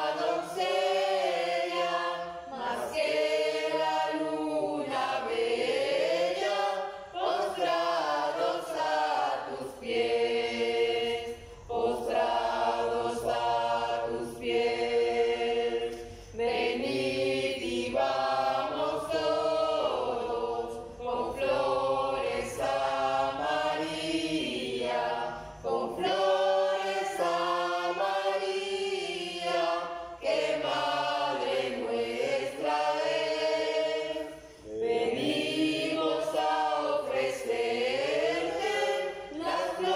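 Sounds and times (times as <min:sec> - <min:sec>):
choir singing unaccompanied: 0:00.0 - 0:39.9.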